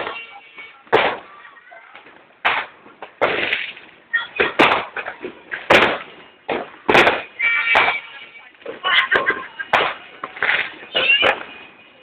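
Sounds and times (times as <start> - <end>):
firecracker bangs echoing: 0.0 - 11.8.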